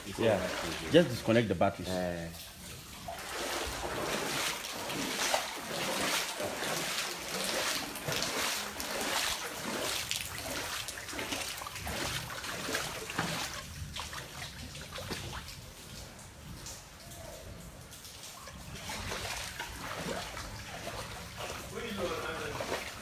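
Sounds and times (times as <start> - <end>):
footsteps wading through water: 0.0 - 23.0.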